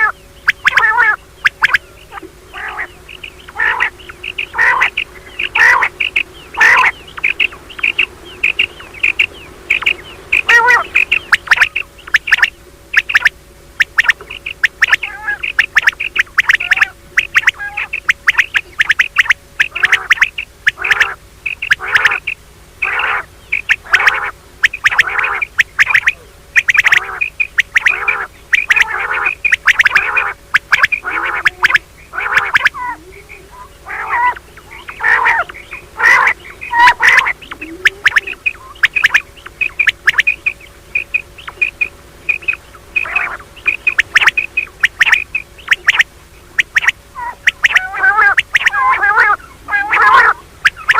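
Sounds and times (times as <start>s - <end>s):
faint steady hum: 0.0s - 50.9s
quail calling: 0.0s - 50.9s.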